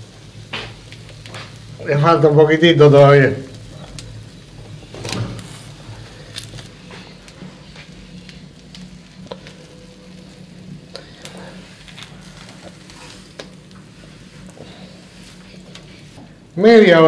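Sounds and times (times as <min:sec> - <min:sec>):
low hum: 0:00.0 - 0:16.6
meat sizzling on a grill: 0:00.0 - 0:17.0.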